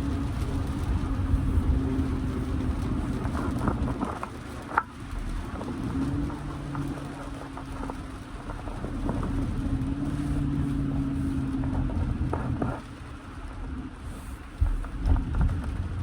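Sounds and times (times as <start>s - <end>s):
car engine droning: 0.0s - 16.0s
tyre and road rumble: 0.0s - 16.0s.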